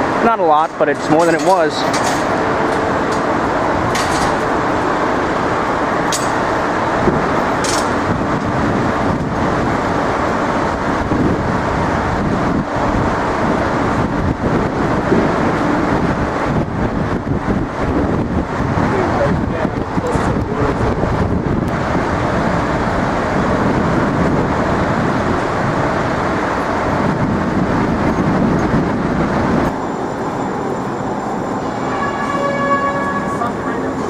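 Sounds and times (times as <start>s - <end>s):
city street traffic: 0.0s - 34.0s.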